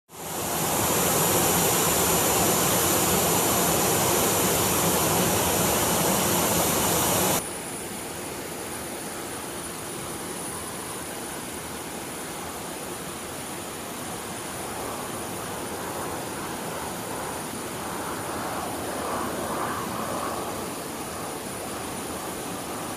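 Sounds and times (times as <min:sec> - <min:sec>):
jet engines rushing and whining: 0:00.1 - 0:07.4, 0:09.0 - 0:22.9.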